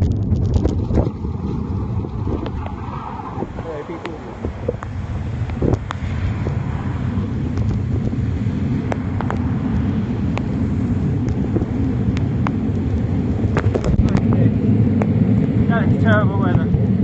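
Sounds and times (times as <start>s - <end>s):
bicycle road rumble: 0.0s - 17.0s
wind on microphone: 0.0s - 17.0s.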